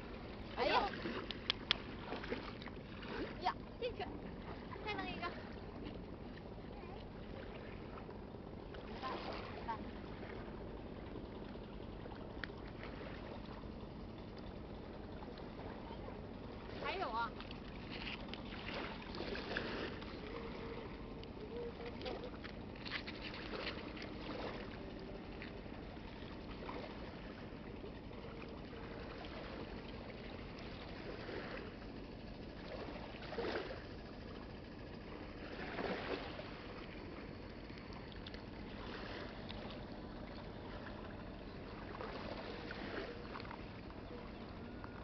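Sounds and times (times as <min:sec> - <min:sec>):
riverside background noise: 0:00.0 - 0:45.0.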